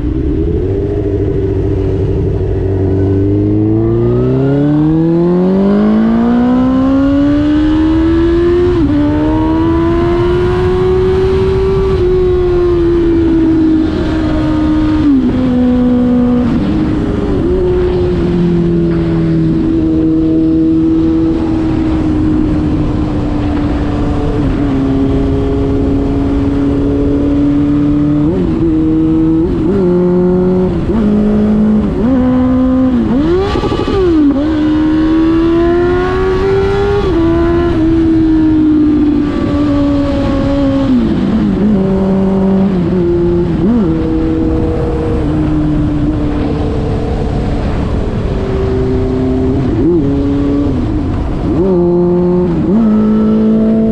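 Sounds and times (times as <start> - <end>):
loud motorcycle engine cruising: 0.0 - 53.9.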